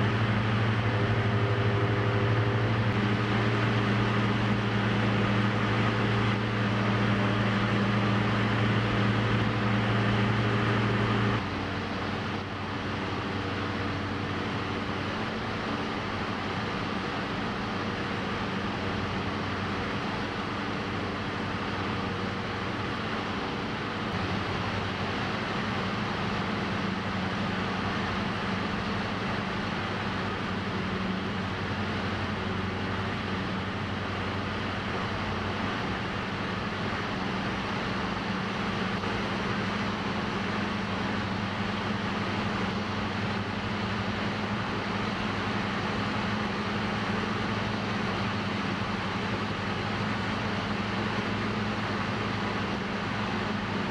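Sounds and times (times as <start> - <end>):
aircraft engine and propeller drone: 0.0 - 53.9.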